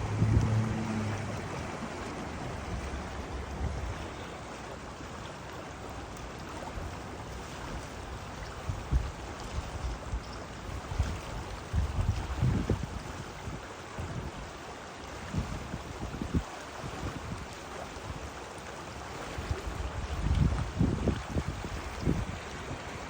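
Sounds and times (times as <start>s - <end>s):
wind buffeting microphone: 0.0s - 4.3s, 6.6s - 14.6s, 15.2s - 18.4s, 19.2s - 23.0s
stream water flowing: 0.0s - 23.0s.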